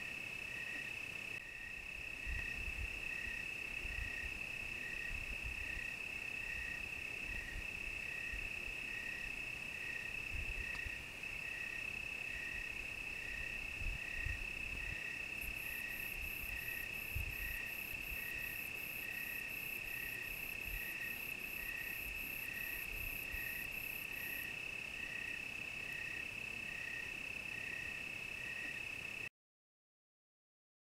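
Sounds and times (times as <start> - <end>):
cricket chirping: 0.0 - 29.3
cricket steady high trill: 0.0 - 29.3.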